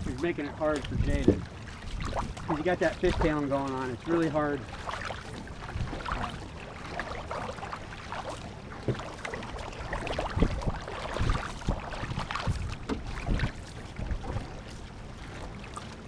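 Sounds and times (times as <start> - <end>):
paddles dipping and splashing: 0.0 - 16.0
water washing along hull: 0.0 - 16.0.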